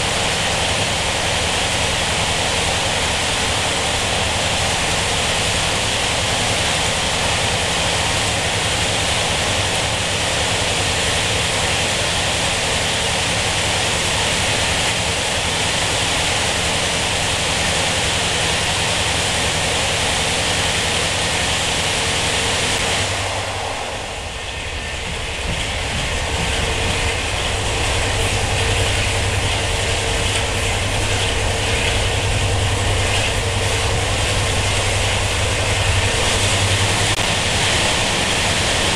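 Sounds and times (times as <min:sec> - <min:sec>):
train running low hum: 0:00.0 - 0:38.9
train wheels and rushing air roar: 0:00.0 - 0:38.9.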